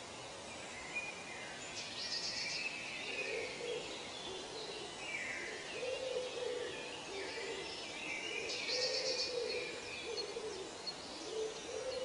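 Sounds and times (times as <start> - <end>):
birds calling and chirping: 0.0 - 12.0
steady hiss: 0.0 - 12.0.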